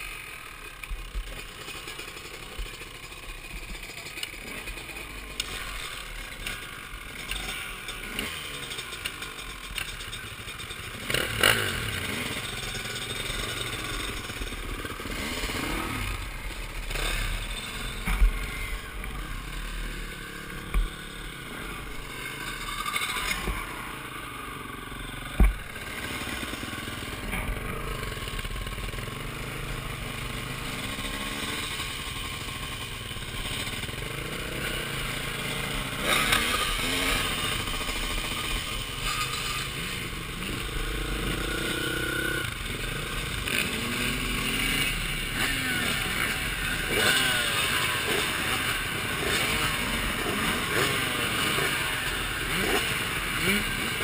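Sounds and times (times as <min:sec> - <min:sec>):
dirt bike engine revving: 0:00.0 - 0:54.0
rattles: 0:00.5 - 0:53.1.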